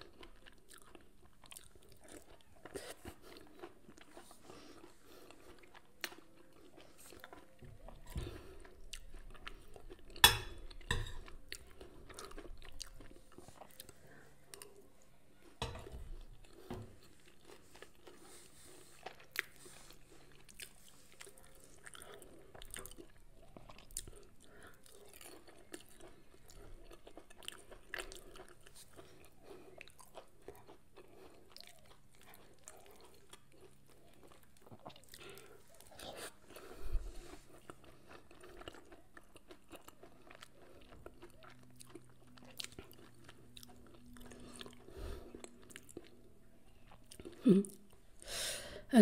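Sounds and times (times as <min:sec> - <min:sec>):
person chewing food: 0:00.0 - 0:48.6.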